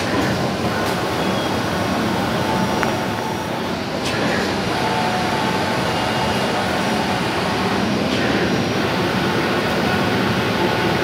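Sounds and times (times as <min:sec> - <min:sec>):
cutting table machine running: 0:00.0 - 0:11.0.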